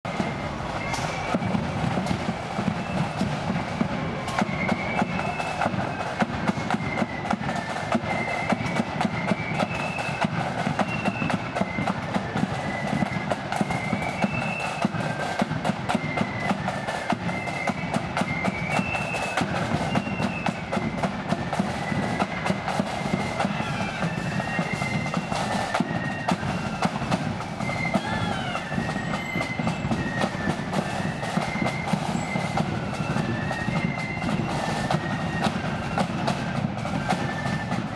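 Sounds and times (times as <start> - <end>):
flutes playing melody: 0.1 - 37.9
rapid snare drumming: 0.1 - 37.9.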